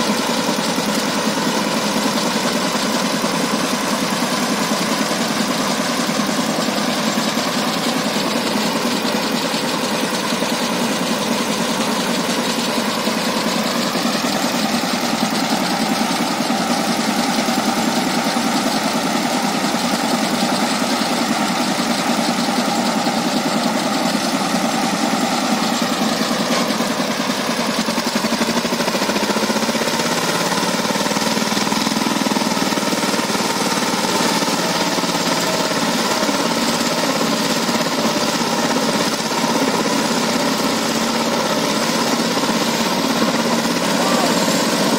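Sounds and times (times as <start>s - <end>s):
diesel engine running and revving: 0.0s - 44.9s.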